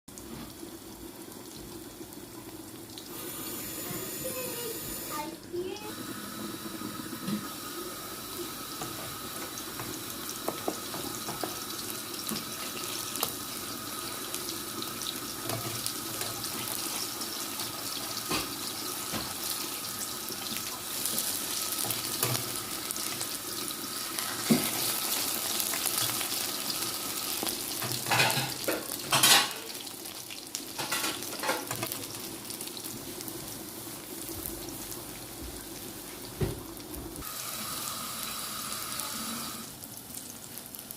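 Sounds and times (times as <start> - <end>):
slices sizzling in hot oil: 0.2 - 40.9.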